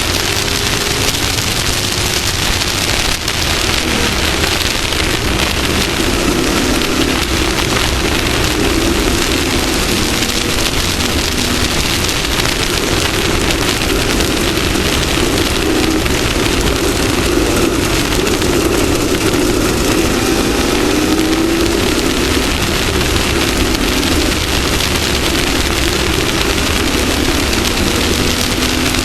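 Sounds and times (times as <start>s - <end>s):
race vehicle engine running: 0.0s - 29.0s
wind and dirt rushing: 0.0s - 29.0s.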